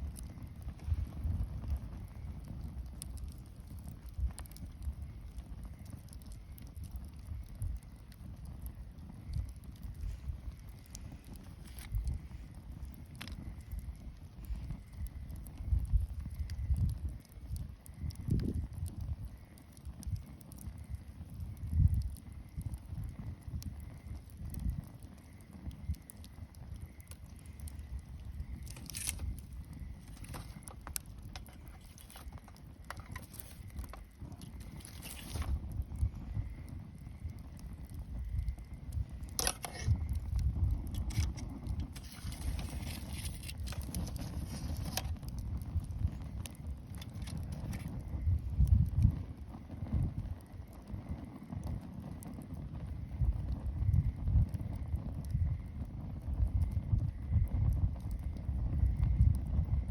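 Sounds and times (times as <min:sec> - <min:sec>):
sharp pops and snaps: 0:00.0 - 0:49.1
bonfire crackling: 0:00.0 - 0:59.9
hissing crackle: 0:00.0 - 0:59.9.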